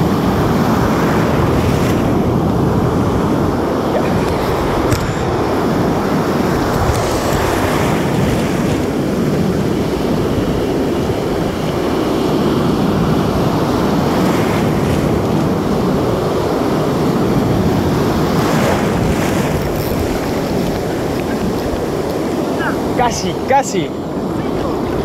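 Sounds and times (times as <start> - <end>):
ocean surf washing: 0.0 - 25.0
wind on microphone: 0.0 - 25.0.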